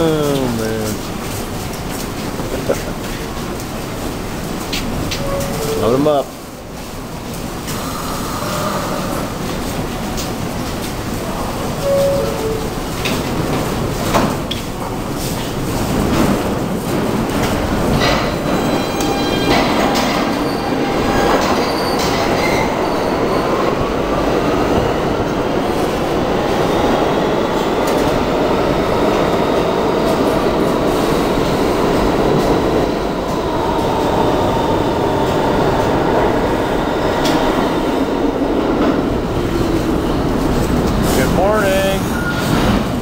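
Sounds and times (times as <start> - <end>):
subway train wheels rumbling: 0.0 - 43.0.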